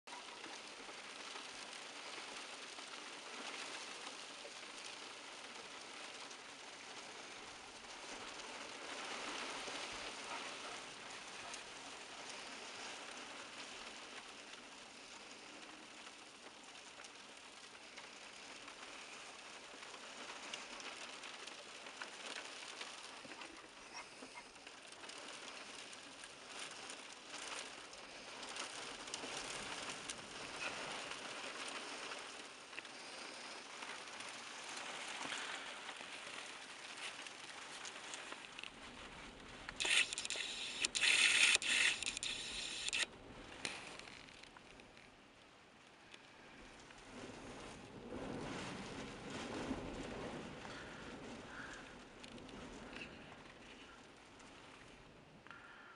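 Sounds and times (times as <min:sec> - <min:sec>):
hail striking surfaces: 0:00.1 - 0:45.2, 0:46.0 - 0:55.9.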